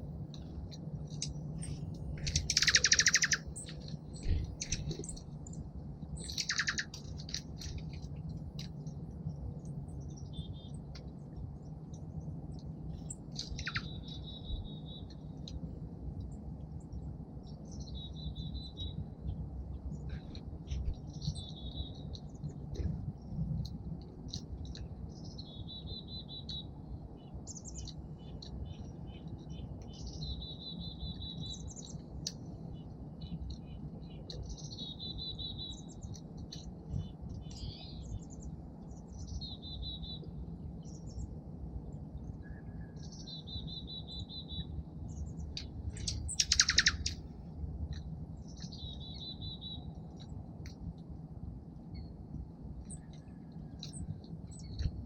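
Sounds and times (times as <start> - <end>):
low background rumble: 0.0 - 55.0
songbird trilling song: 0.3 - 12.0, 12.9 - 15.5, 16.9 - 22.9, 24.3 - 41.3, 42.2 - 50.8, 52.8 - 55.0.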